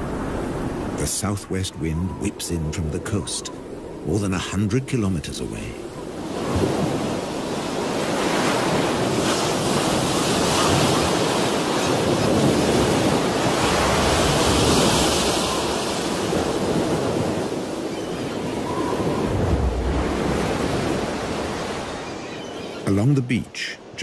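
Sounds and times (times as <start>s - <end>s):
ocean surf: 0.0s - 24.0s
wind: 0.0s - 24.0s.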